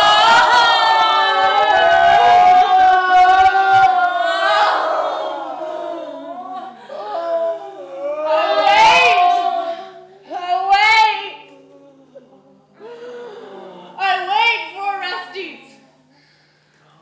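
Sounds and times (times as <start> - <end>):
voices wailing in lament: 0.0 - 14.5.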